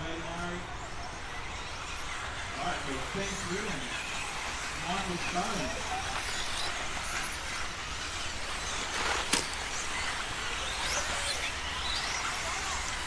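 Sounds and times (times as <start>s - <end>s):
faint electric motor whines: 0.0s - 13.0s.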